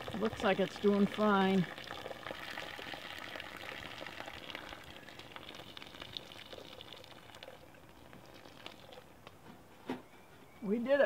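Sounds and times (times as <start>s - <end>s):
syrup bubbling and trickling: 0.0s - 9.4s.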